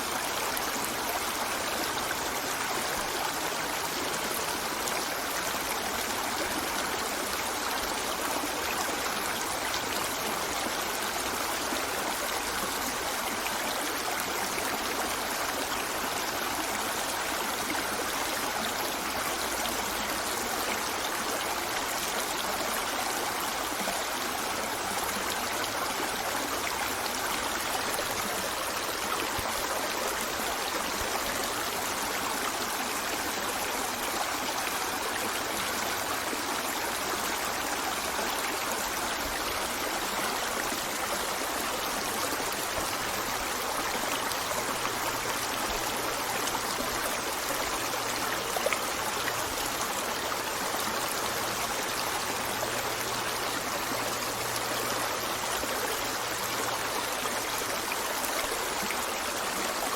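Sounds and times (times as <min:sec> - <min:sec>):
river running over rocks: 0:00.0 - 0:59.9.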